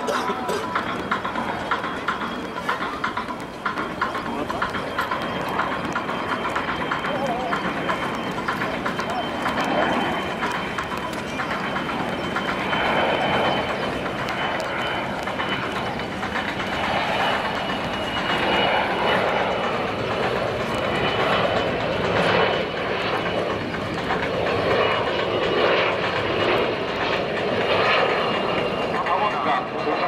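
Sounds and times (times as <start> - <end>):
jet engines rushing: 0.0 - 30.0.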